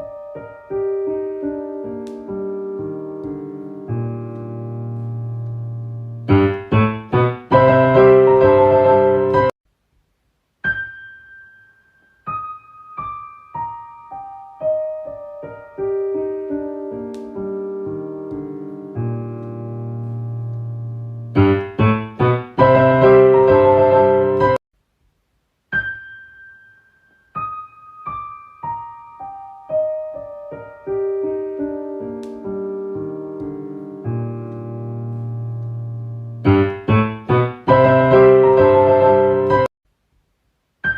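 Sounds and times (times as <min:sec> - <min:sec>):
solo piano music: 0:00.0 - 0:09.6, 0:10.6 - 0:24.6, 0:25.7 - 0:39.7.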